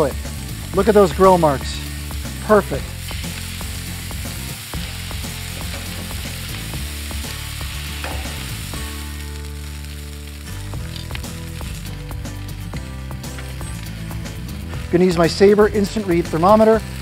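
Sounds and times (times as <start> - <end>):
low background music: 0.0 - 17.0
patties sizzling on griddle: 0.0 - 17.0.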